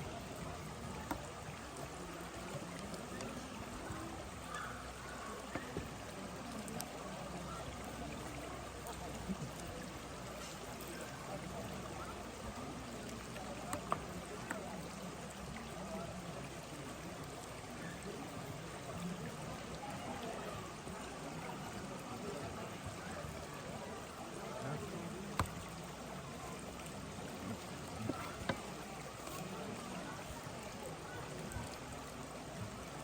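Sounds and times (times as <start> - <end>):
flowing water: 0.0 - 33.0.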